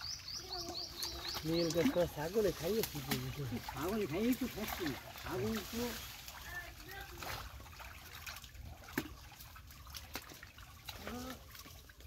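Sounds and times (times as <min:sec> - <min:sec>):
muddy water sloshing and trickling: 0:00.0 - 0:12.0
small water splashes: 0:00.0 - 0:12.0.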